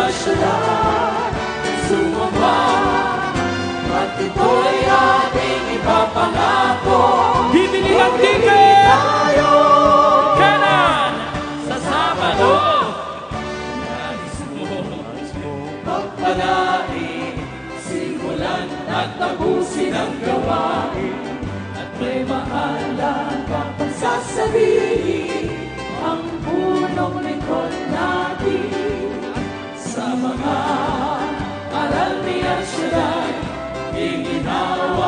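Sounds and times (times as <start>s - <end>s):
choir singing gospel song: 0.0s - 14.9s, 15.6s - 35.0s
instrumental backing: 0.0s - 35.0s.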